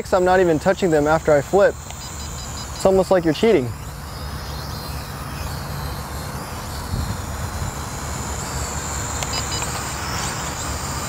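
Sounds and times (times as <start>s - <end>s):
toy drone whine: 0.0s - 11.0s.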